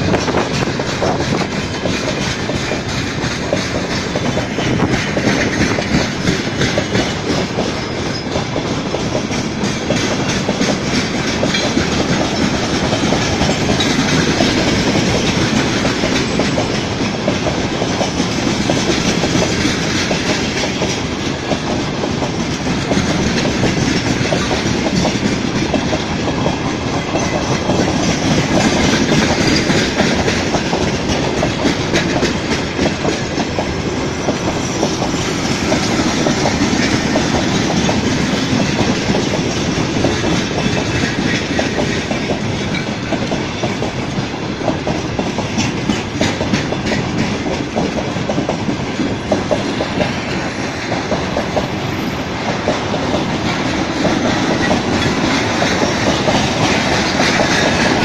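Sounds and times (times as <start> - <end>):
freight train rolling past: 0.0 - 58.0
steel wheels clattering over rail joints: 0.0 - 58.0.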